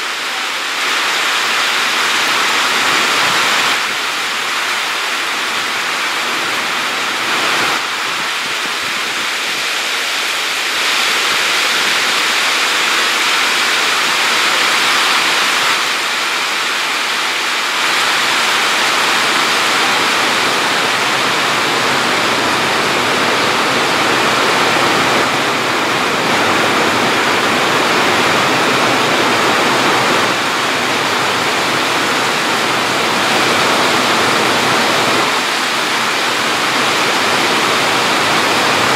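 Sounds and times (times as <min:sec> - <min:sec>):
steady loud rushing noise: 0:00.0 - 0:38.9.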